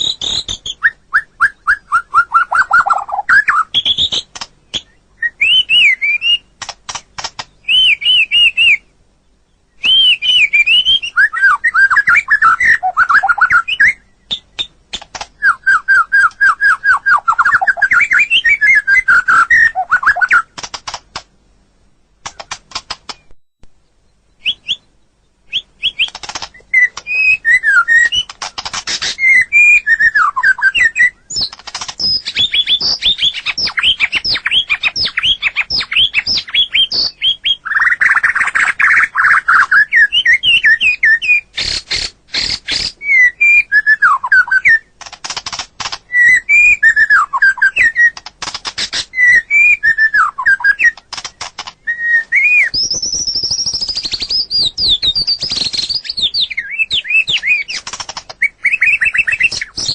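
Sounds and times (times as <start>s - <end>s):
bird singing whistled phrases: 0.0s - 6.5s, 7.6s - 8.9s, 9.7s - 14.7s, 15.4s - 20.5s, 24.3s - 28.3s, 28.9s - 41.8s, 42.4s - 44.9s, 46.1s - 48.2s, 48.9s - 51.0s, 51.8s - 57.8s, 58.4s - 59.9s
sharp bird clicking notes: 2.4s - 8.7s, 11.8s - 21.3s, 22.2s - 23.8s, 25.5s - 43.0s, 44.2s - 59.9s.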